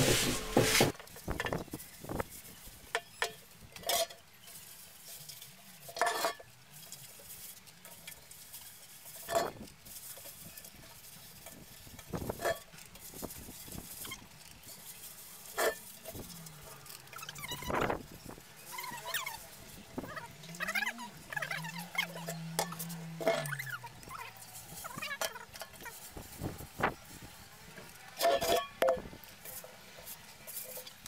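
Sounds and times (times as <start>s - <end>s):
wet rubbing on metal pot: 0.0s - 1.0s, 4.5s - 31.0s.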